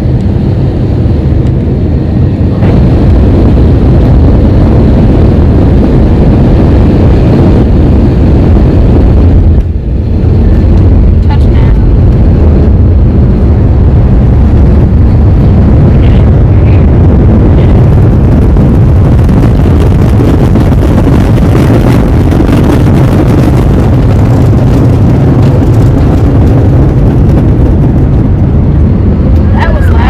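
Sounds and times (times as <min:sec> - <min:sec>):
jet airliner cabin rumble: 0:00.0 - 0:30.0.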